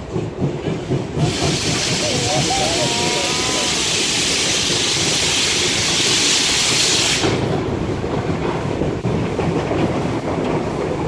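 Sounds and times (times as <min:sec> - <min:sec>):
locomotive rumbling and rattling: 0:00.0 - 0:11.0
steam hissing loudly: 0:00.4 - 0:09.5.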